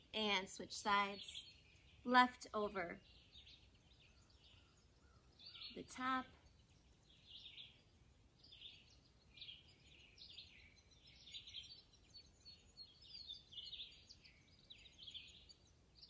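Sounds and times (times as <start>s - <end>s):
faint birdsong chirping: 0.0s - 16.0s.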